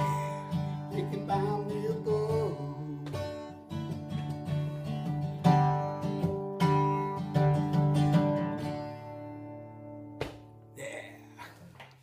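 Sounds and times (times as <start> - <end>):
acoustic guitar strumming: 0.0 - 10.8.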